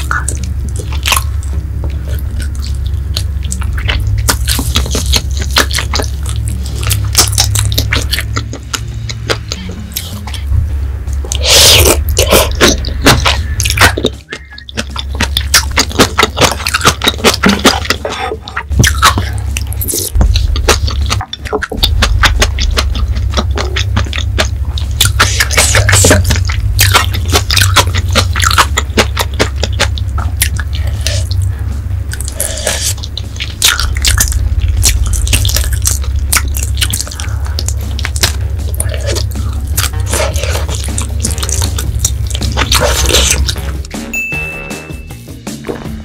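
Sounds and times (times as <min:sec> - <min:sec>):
crunching bones while chewing: 0:00.0 - 0:10.5, 0:11.2 - 0:43.9
wet mouth eating sounds: 0:00.0 - 0:44.0
steady low hum: 0:00.0 - 0:46.0.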